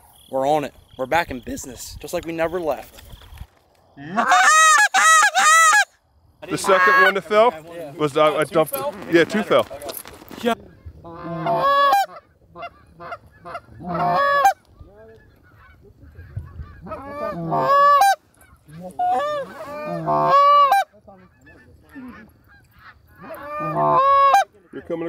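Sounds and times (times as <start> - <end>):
goose honking and clucking: 4.0 - 9.6, 10.4 - 25.0.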